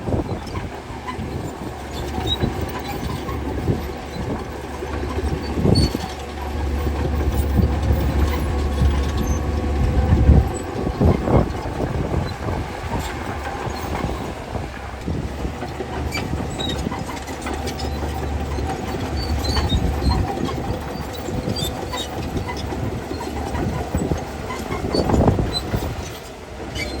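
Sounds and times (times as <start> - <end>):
bulldozer diesel engine: 0.0 - 27.0
crawler tracks clanking: 0.0 - 27.0.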